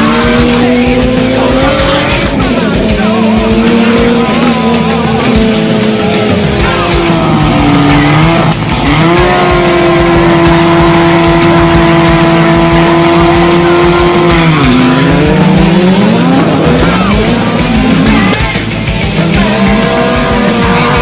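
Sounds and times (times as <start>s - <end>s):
car engine revving hard: 0.0s - 21.0s
music: 0.0s - 21.0s.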